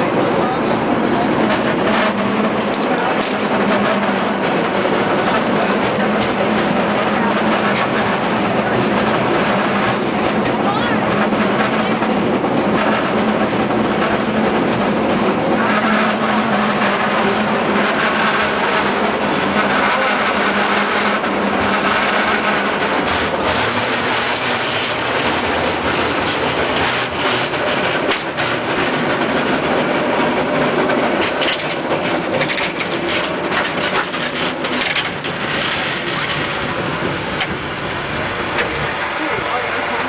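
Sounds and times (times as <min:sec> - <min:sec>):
cable car rattling and clacking: 0:00.0 - 0:40.0.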